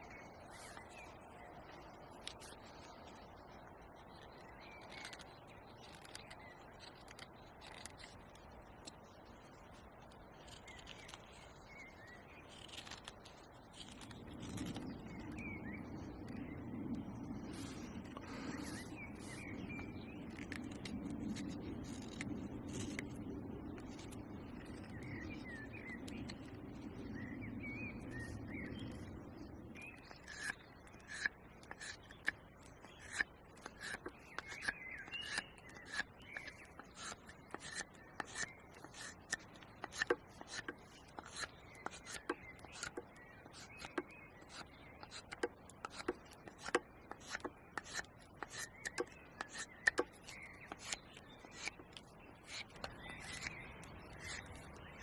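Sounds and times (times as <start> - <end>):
knife scraping wood: 4.2 - 9.0, 10.4 - 11.6, 12.2 - 15.4, 17.3 - 27.1, 29.8 - 55.0.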